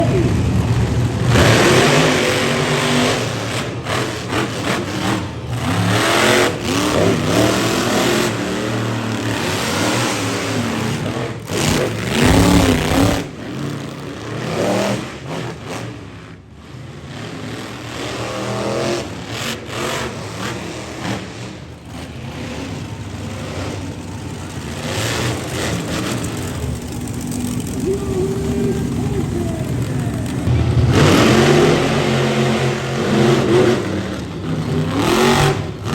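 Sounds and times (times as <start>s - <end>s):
monster truck engines revving: 0.0s - 35.9s.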